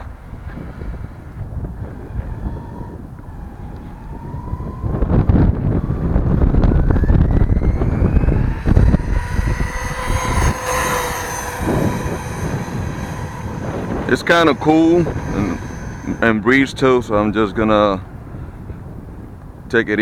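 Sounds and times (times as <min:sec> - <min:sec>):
wind and driving noise: 0:00.0 - 0:20.0
electric motor whining: 0:00.6 - 0:17.5.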